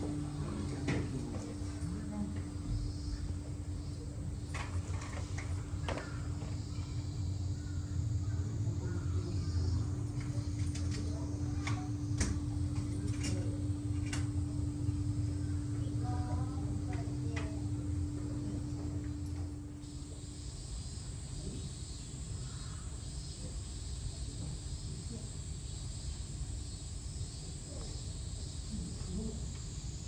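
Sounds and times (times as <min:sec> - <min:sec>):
faint voices: 0:00.0 - 0:25.9, 0:27.4 - 0:30.0
mechanical hum: 0:00.0 - 0:30.0.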